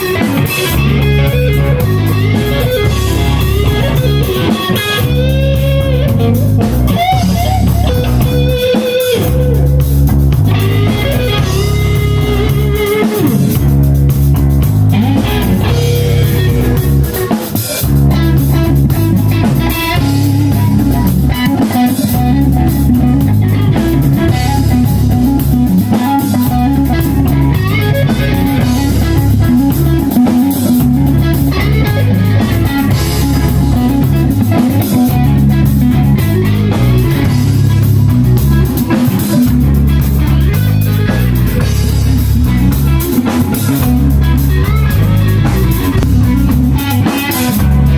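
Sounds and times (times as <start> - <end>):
bass guitar: 0.0 - 47.9
drum kit: 0.0 - 47.9
electric guitar lead: 0.0 - 47.9.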